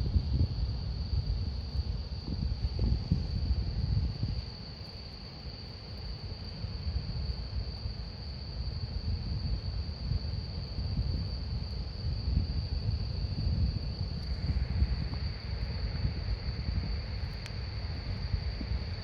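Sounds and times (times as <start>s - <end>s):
rumble of burning wood: 0.0s - 19.0s.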